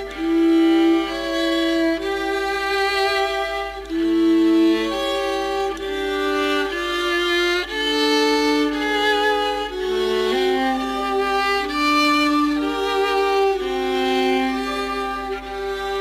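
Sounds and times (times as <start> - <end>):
violins playing chamber music: 0.0 - 16.0.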